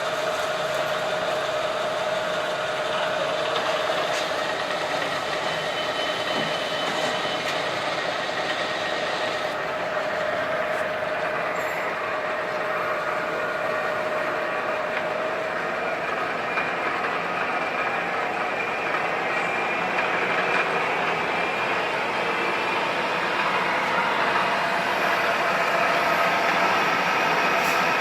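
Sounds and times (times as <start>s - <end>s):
milling machine whirring: 0.0s - 28.0s.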